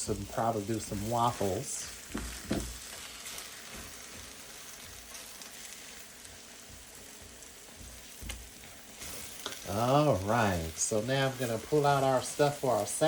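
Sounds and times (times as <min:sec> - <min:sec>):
eggs sizzling in a pan: 0:00.0 - 0:13.0.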